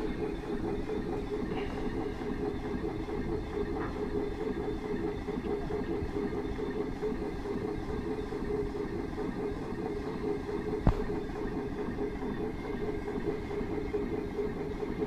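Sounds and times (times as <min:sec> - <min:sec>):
steam engine running: 0:00.0 - 0:15.0.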